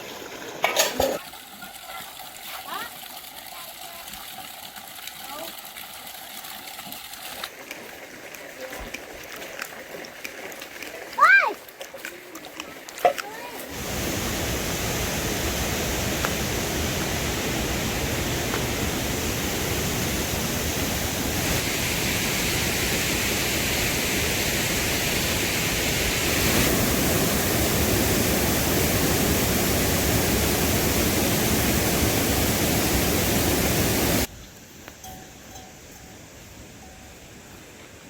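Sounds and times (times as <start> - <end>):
rushing water: 0.0 - 34.3.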